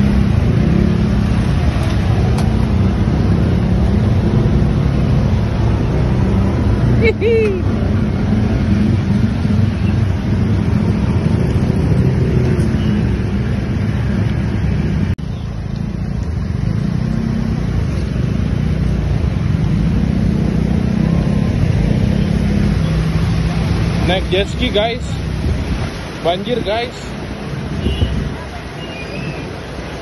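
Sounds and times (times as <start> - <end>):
motor vehicle traffic: 0.0 - 30.0.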